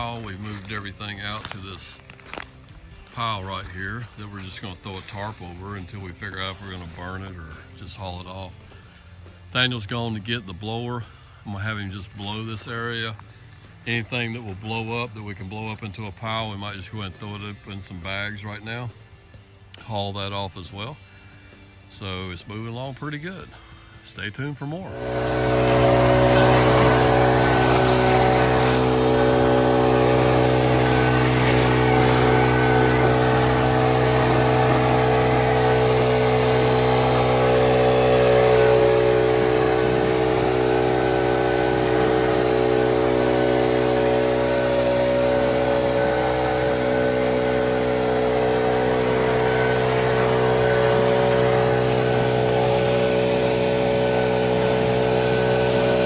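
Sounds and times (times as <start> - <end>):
leaf blower engine running: 0.0 - 17.4, 24.8 - 56.0.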